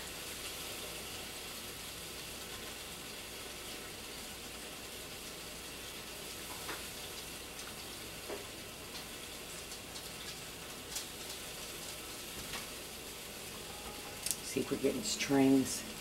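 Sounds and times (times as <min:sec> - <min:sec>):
low cooking hiss: 0:00.0 - 0:16.0.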